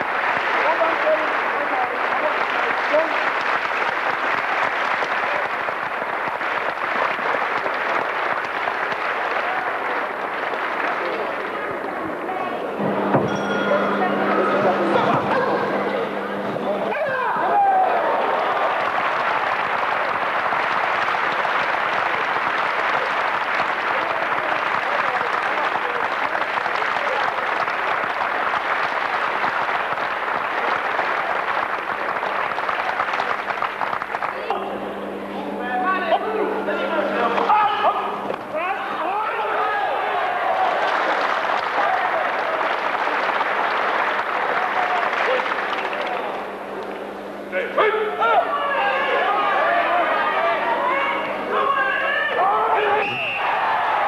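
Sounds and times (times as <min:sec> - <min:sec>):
crowd applauding: 0:00.0 - 0:54.0.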